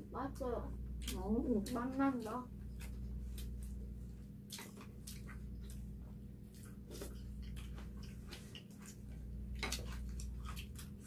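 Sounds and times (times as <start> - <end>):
steady low hum: 0.0 - 11.0
chewing: 0.9 - 11.0.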